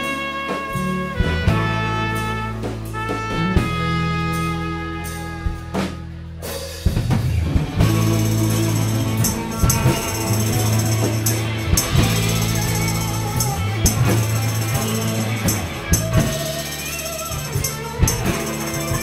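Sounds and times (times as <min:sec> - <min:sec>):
drum kit beating: 0:00.0 - 0:19.0
live band music: 0:00.0 - 0:19.0.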